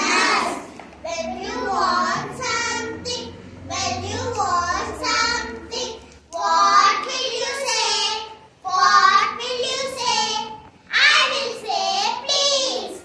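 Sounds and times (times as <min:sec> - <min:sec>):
children singing in chorus: 0:00.0 - 0:13.0.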